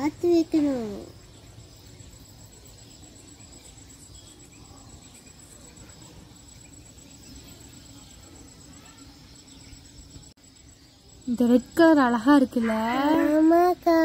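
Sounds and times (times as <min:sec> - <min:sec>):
insect trilling: 0:00.0 - 0:14.0.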